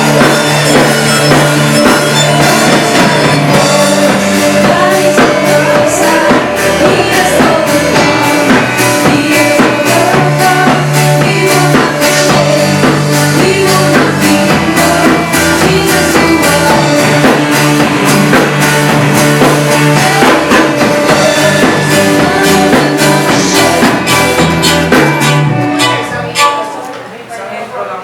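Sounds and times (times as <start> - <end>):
bass notes: 0.0 - 27.0
person singing: 0.0 - 27.0
drum kit beat: 0.0 - 27.1
live rock band playing: 0.0 - 27.1.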